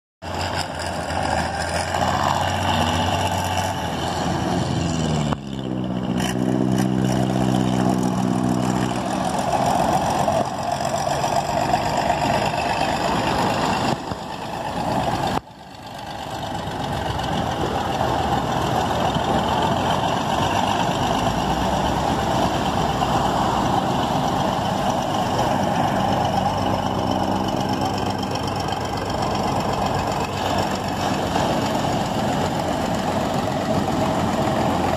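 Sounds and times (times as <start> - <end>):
heavy engine running: 0.2 - 34.9.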